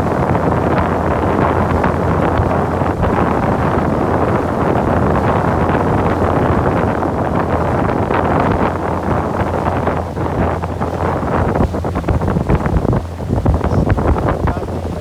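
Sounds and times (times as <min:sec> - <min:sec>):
motorboat engine drone: 0:00.0 - 0:15.0
rushing water: 0:00.0 - 0:15.0
wind buffeting microphone: 0:00.0 - 0:15.0.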